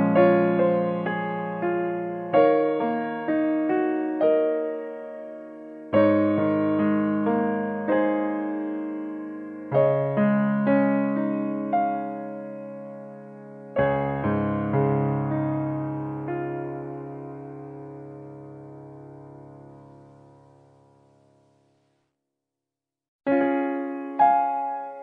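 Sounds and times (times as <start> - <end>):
piano music: 0.0 - 21.6, 23.3 - 25.0.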